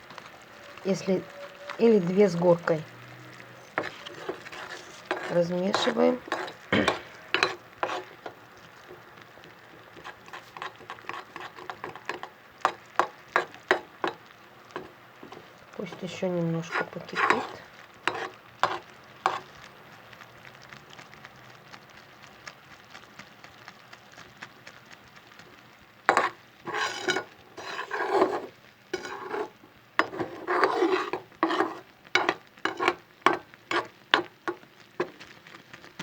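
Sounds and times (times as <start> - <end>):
spoon scraping a pan: 0.0 - 19.7, 26.1 - 36.0
syrup simmering in a pan: 0.0 - 36.0.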